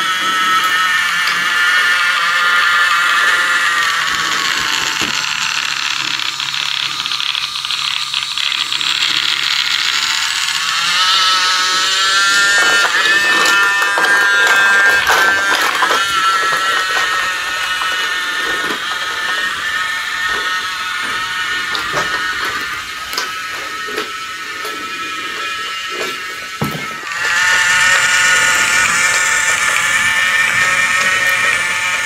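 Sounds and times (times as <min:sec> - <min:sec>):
toy train motor whirring: 0:00.0 - 0:32.0.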